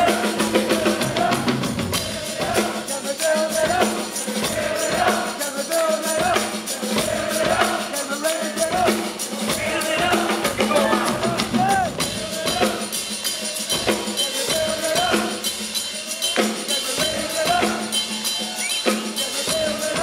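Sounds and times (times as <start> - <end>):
male lead vocal singing: 0.0 - 20.0
rock band playing: 0.0 - 20.0
tambourine shaken and struck: 0.0 - 20.0.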